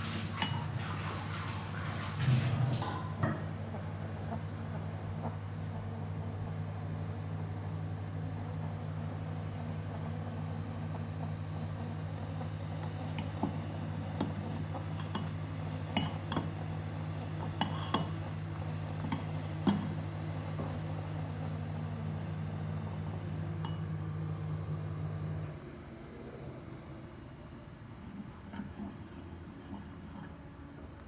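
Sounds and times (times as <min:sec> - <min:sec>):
kitchen appliance humming: 0:00.0 - 0:31.0.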